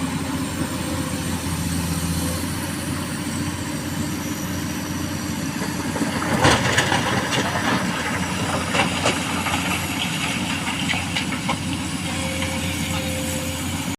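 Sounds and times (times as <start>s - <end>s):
heavy diesel engine running: 0.0s - 13.9s.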